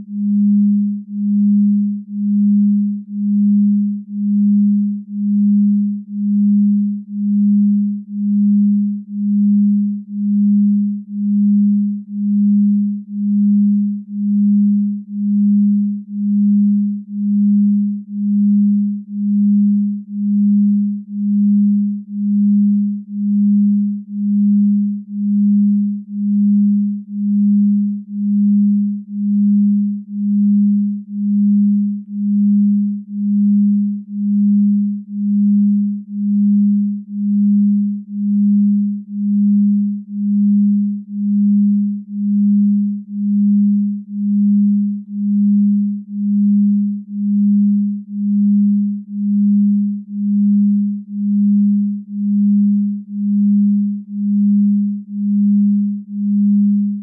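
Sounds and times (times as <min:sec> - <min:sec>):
low pulsing electronic sine tone: 0:00.0 - 0:57.0.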